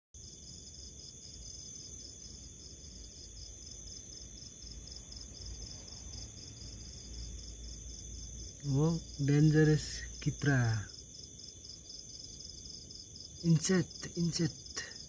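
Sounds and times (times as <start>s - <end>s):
cricket chirping: 0.2s - 15.0s.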